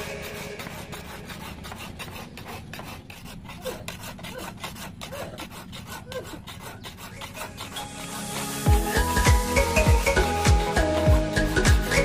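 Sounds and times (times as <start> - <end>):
file rasping on steel blade: 0.0 - 12.0.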